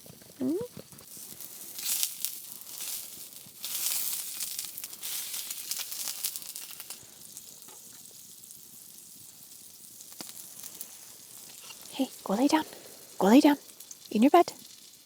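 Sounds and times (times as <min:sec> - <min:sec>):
sausages sizzling in a pan: 0:00.0 - 0:15.0.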